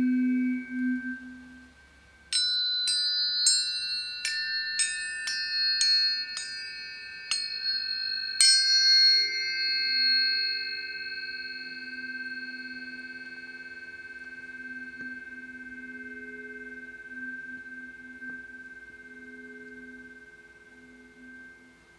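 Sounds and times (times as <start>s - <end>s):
lower humming tones: 0.0s - 21.9s
tuning forks struck and ringing: 0.0s - 21.9s.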